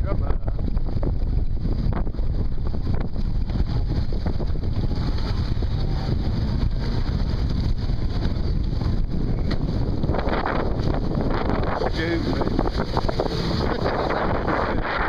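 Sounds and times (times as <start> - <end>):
jet ski engine running: 0.0 - 15.0
rough sea water: 0.0 - 15.0
wind buffeting microphone: 0.0 - 15.0.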